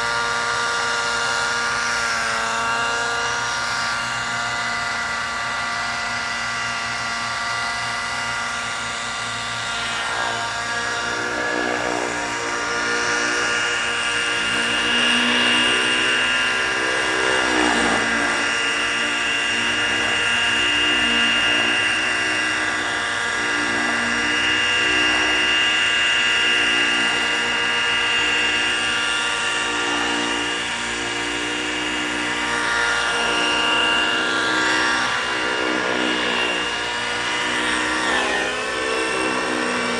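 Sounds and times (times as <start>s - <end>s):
model helicopter engine and rotors: 0.0s - 39.9s.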